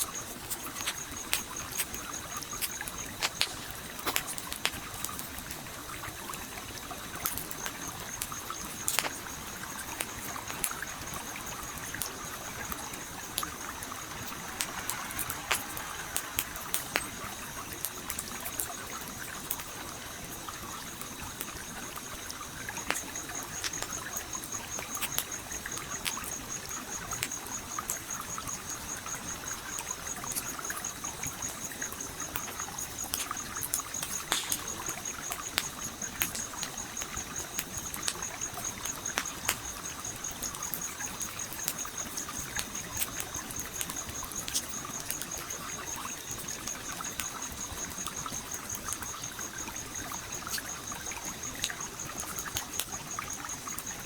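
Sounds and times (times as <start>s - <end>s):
campfire crackling and popping: 0.0s - 54.0s
stream trickling: 0.0s - 54.0s.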